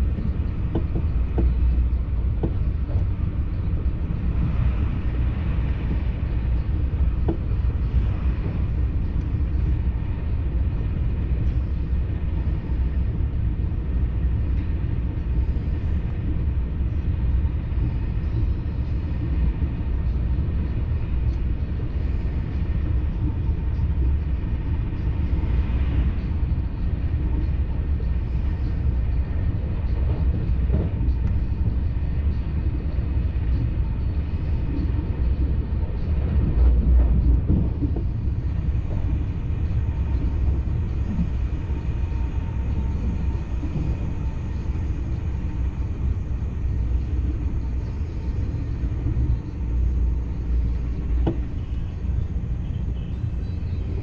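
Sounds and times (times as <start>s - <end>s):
train rumble from inside carriage: 0.0s - 54.0s.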